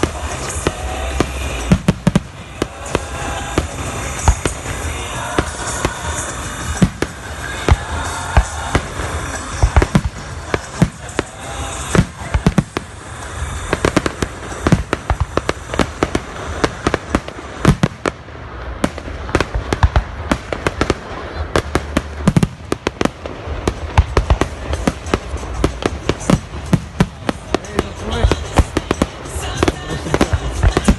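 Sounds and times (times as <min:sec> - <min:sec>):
fireworks bursts and bangs: 0:00.0 - 0:30.9.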